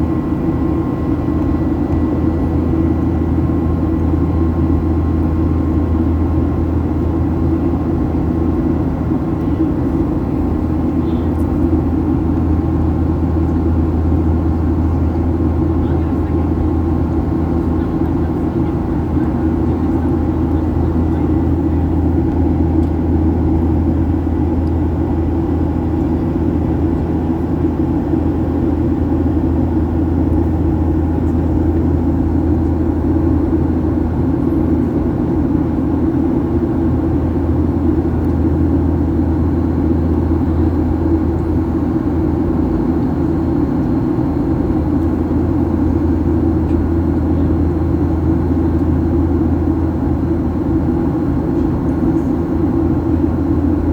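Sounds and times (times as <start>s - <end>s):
airliner engines droning: 0.0s - 53.9s.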